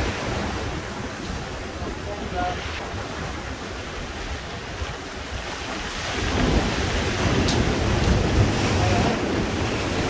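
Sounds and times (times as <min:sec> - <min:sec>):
surf breaking on rocks: 0:00.0 - 0:10.0
wind rumbling on microphone: 0:00.0 - 0:10.0.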